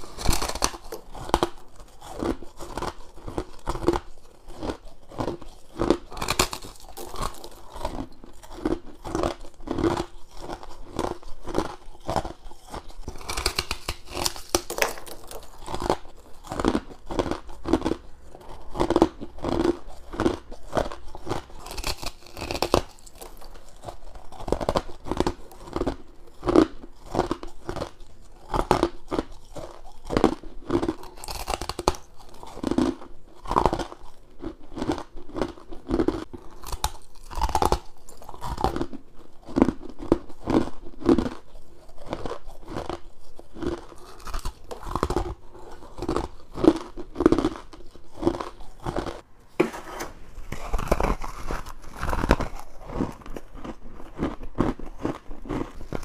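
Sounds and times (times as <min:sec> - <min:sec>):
person chewing crunchy ice: 0:00.0 - 0:56.0.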